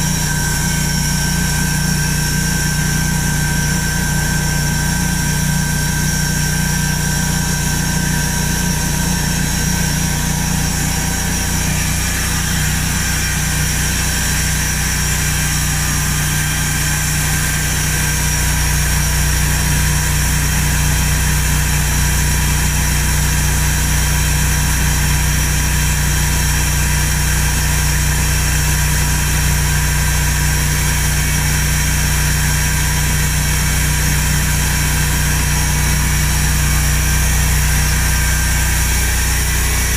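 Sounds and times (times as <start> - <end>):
high saw whine: 0.0 - 39.9
sawmill motor humming: 0.0 - 39.9.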